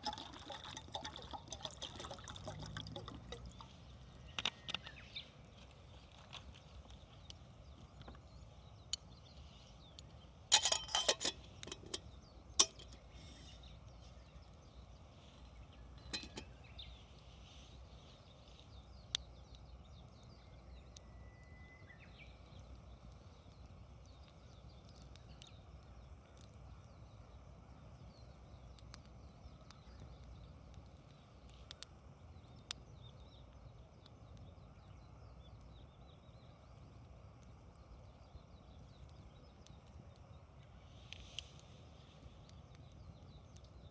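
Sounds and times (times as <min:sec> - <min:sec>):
campfire crackling and popping: 0:00.0 - 0:21.2, 0:22.1 - 0:43.9.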